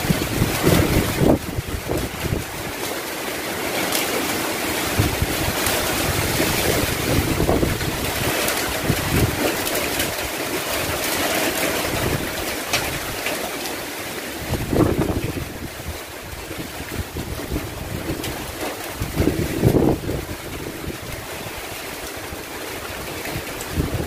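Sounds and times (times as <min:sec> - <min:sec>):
strong wind gusting: 0:00.0 - 0:02.8, 0:04.6 - 0:11.1, 0:11.7 - 0:13.2, 0:14.4 - 0:24.0
wind buffeting microphone: 0:00.0 - 0:02.8, 0:04.8 - 0:13.3, 0:14.4 - 0:24.0.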